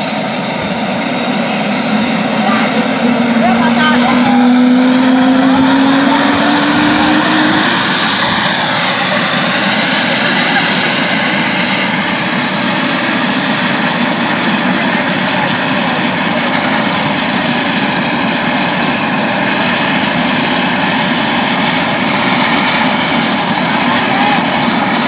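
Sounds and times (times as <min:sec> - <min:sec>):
helicopter turbine whine: 0:00.0 - 0:25.0
rotor rumble: 0:00.0 - 0:25.0.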